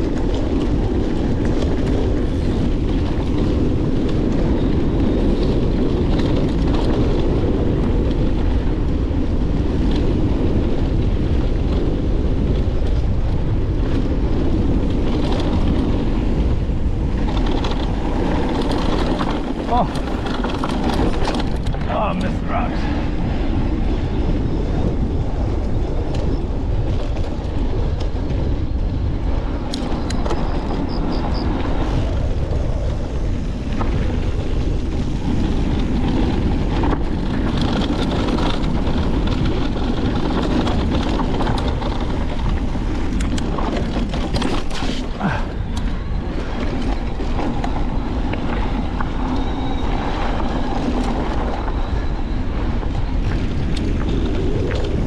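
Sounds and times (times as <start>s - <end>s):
bike clicking and rattling: 0.0s - 55.0s
bike tyres over dirt and rocks: 0.0s - 55.0s
wind on microphone: 0.0s - 55.0s.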